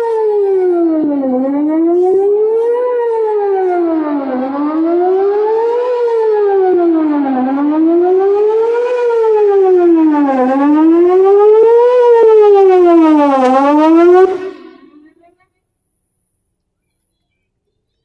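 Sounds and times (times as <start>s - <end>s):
wailing warning siren: 0.0s - 15.2s.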